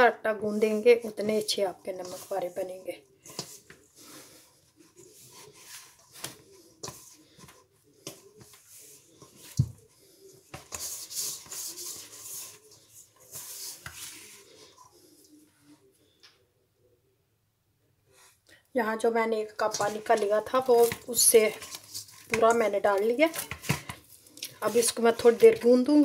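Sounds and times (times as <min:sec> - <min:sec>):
dough kneaded in metal bowl: 0:00.0 - 0:15.8, 0:19.0 - 0:26.0.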